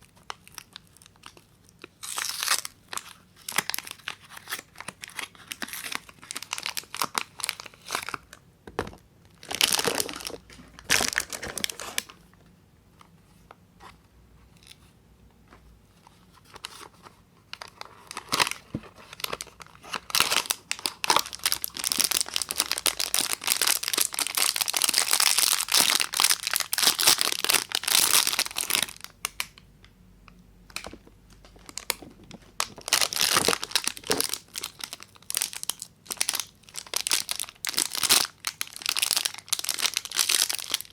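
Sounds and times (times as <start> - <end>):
packaging crinkling and tearing: 0.0 - 8.4, 9.3 - 12.2, 16.3 - 29.6, 30.7 - 40.9.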